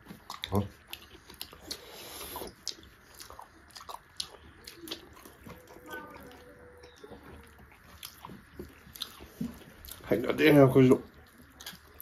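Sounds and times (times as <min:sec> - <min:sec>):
people biting and chewing: 0:00.0 - 0:10.1, 0:11.0 - 0:12.0.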